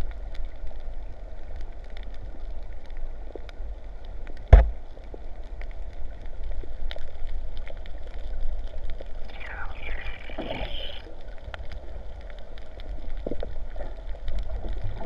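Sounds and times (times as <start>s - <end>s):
rain falling on sea: 0.0s - 15.0s.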